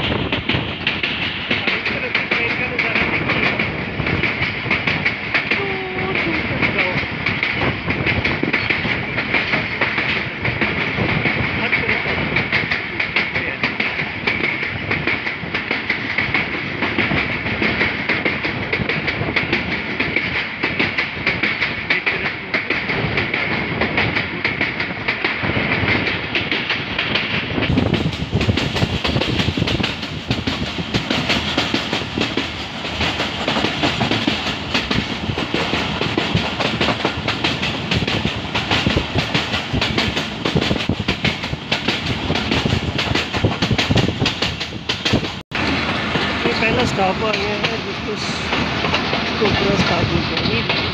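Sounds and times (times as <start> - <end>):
train rumbling on track: 0.0 - 50.9.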